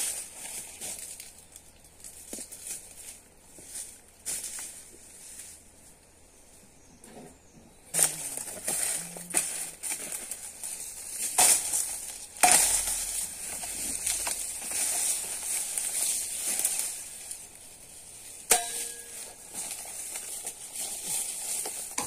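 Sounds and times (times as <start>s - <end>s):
leaves rustling and scraping: 0.0s - 22.0s.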